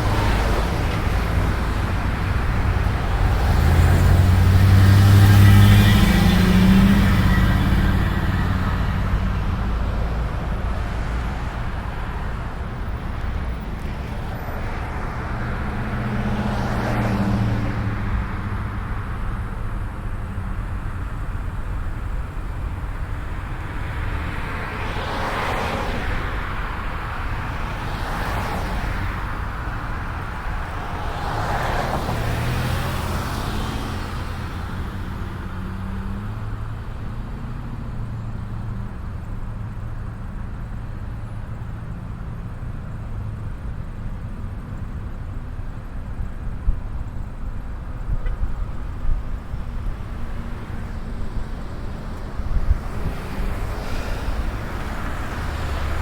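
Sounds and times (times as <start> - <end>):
cars passing by: 0.0 - 56.0.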